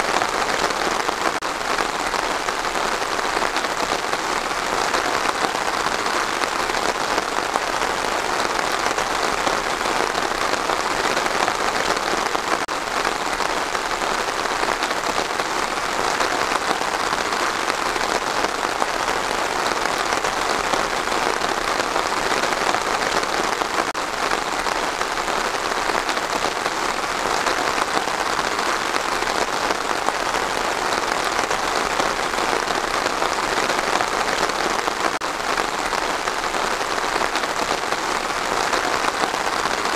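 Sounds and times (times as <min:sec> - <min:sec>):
steady rain on trees: 0:00.0 - 0:39.9.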